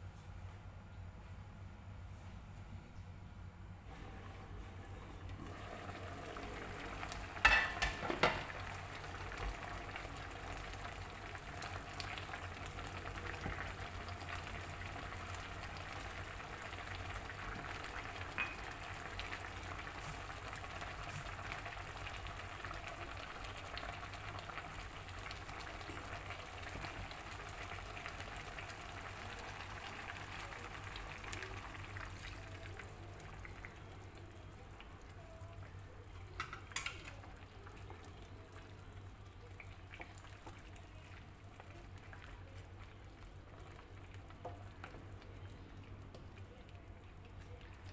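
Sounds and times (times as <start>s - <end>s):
curry simmering bubbling hiss: 3.9s - 47.9s.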